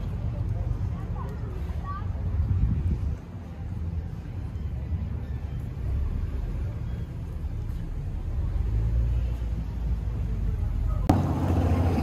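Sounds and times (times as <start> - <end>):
car traffic rumble: 0.0 - 12.0.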